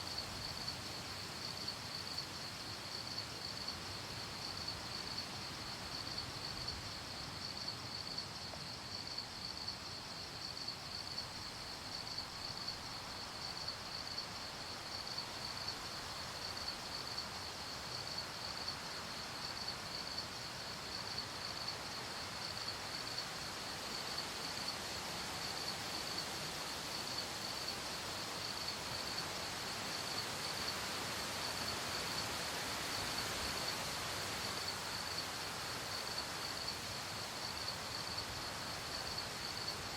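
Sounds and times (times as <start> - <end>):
crickets chirping: 0.0 - 39.9
night ambience hiss: 0.0 - 39.9.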